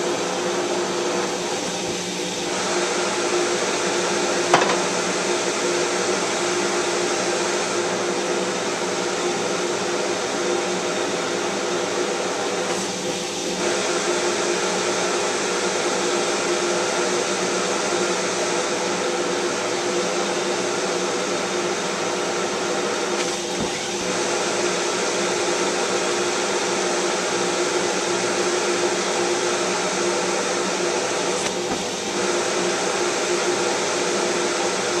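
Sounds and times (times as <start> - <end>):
air rushing at vacuum nozzle: 0.0 - 19.3, 20.4 - 35.0
shop vacuum humming: 0.0 - 35.0.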